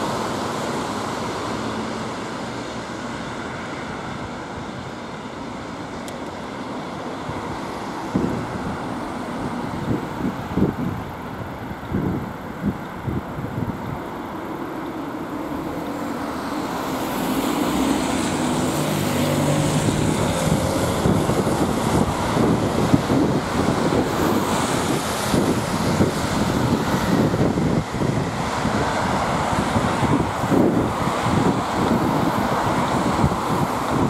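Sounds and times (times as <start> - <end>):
bus passing: 0.0 - 34.0
wind buffeting microphone: 0.0 - 34.0.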